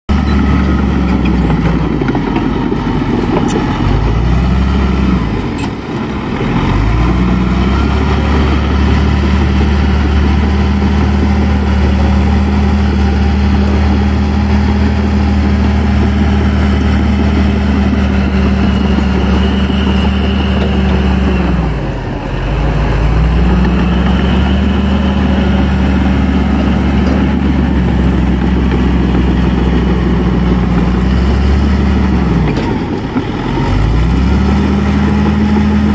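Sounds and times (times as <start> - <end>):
excavator diesel engine running: 0.1 - 35.9.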